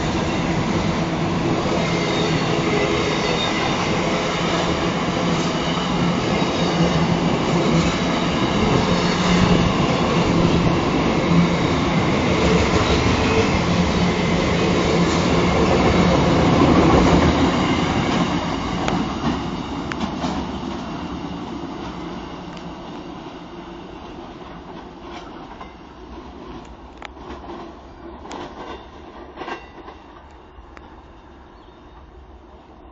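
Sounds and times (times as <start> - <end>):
train wheels clattering on rails: 0.0 - 22.8, 23.9 - 31.1.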